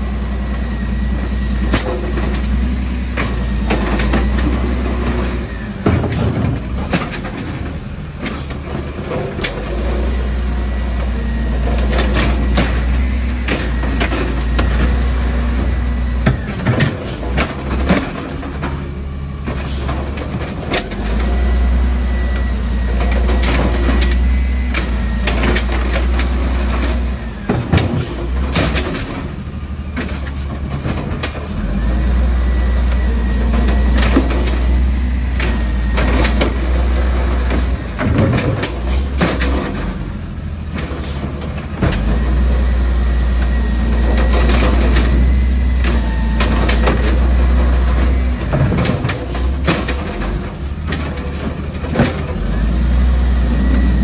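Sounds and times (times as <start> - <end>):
garbage truck engine revving: 0.0 - 54.0
carts knocking and banging: 1.6 - 10.0, 11.6 - 21.3, 22.8 - 31.7, 33.3 - 42.2, 43.9 - 54.0.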